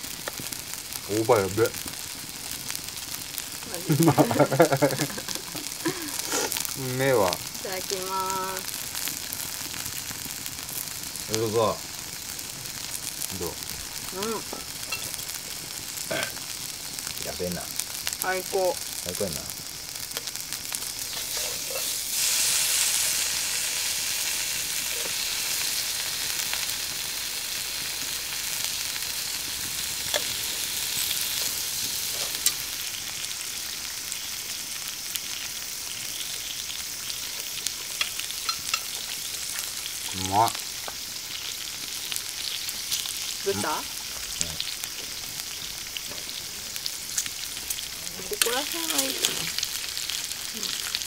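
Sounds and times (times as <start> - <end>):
chicken sizzling in a pan: 0.0 - 51.0.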